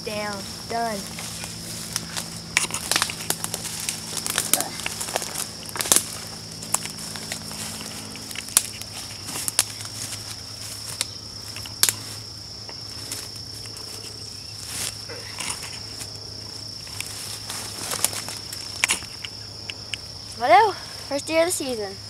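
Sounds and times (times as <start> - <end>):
dry leaves and twigs crackling: 0.0 - 22.0
high-pitched insect drone: 0.0 - 22.0.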